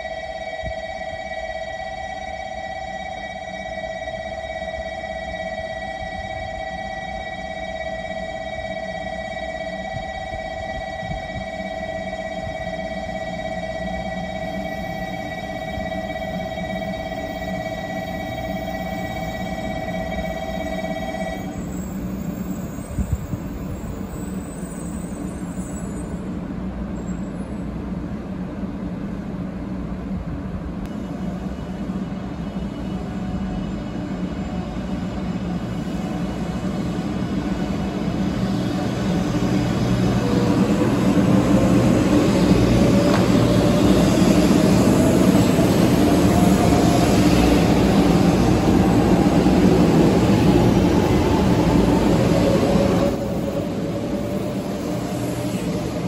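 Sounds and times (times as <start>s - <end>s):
train motor whine: 0.0s - 26.1s, 30.9s - 56.0s
train rolling noise and hum: 0.0s - 56.0s.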